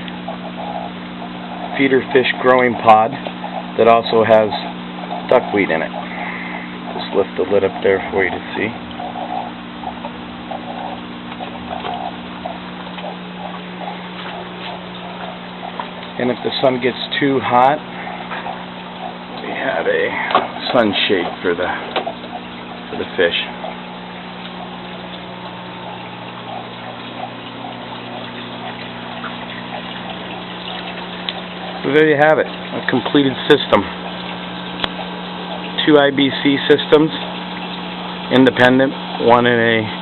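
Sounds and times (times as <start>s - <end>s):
water pump hum: 0.0s - 40.0s
water trickling and splashing: 0.0s - 40.0s.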